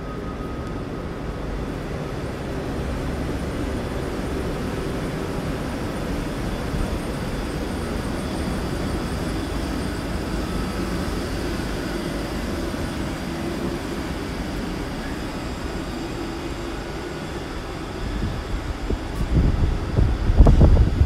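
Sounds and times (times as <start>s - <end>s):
electric tram humming: 0.0s - 21.0s
faint high whine: 0.0s - 21.0s.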